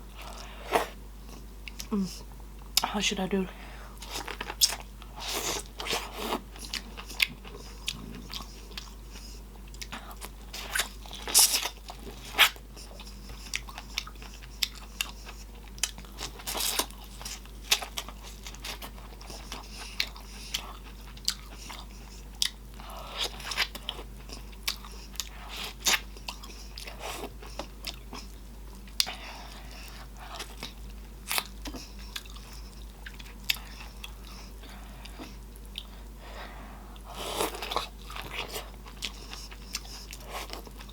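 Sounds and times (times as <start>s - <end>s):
chewing with wet lip smacks: 1.2s - 1.9s, 4.0s - 36.1s, 36.9s - 40.9s.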